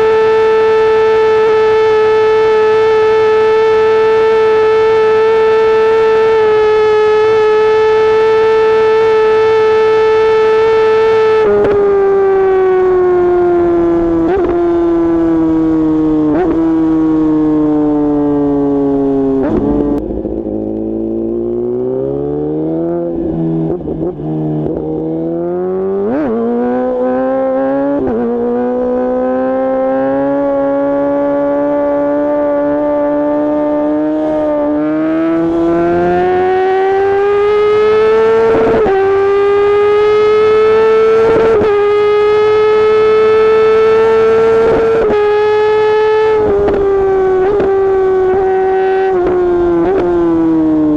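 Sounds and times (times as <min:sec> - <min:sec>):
motorcycle engine at speed: 0:00.0 - 0:50.9.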